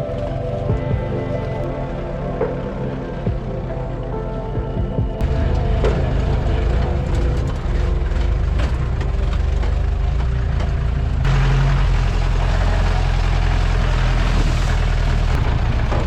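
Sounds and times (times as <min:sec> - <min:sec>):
car engine running off-road: 0:00.0 - 0:16.0.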